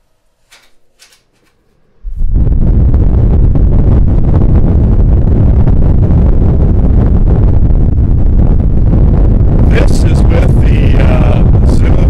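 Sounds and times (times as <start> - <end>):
wind buffeting on microphone: 2.0 - 12.0.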